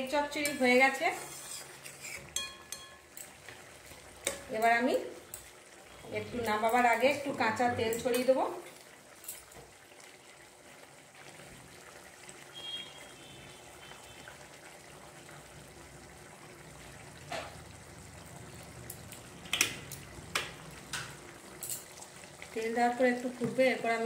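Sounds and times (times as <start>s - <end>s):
oil trickling into pan: 0.4s - 24.0s.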